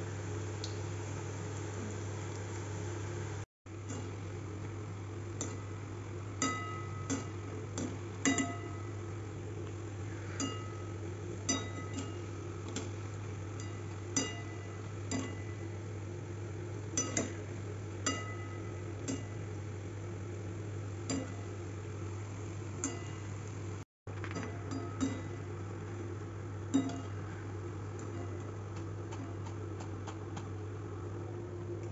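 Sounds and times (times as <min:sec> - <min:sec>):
oil frying sizzle: 0:00.0 - 0:31.9
steady low hum: 0:00.0 - 0:31.9.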